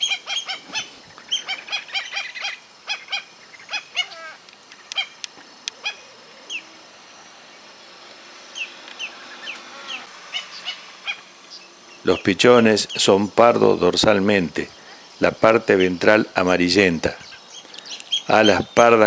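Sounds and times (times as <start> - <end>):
birds honking calls: 0.0 - 19.0.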